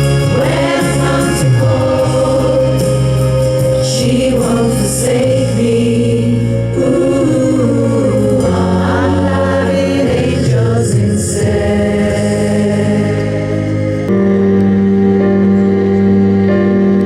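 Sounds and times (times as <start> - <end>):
choir singing held notes: 0.0 - 17.0
low bass: 0.0 - 17.0.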